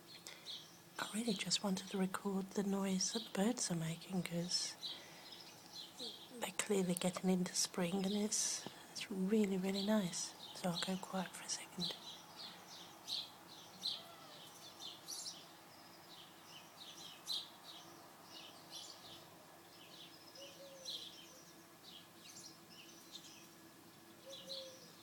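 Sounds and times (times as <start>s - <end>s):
faint low hum: 0.0s - 25.0s
sparrows chirping: 0.0s - 25.0s.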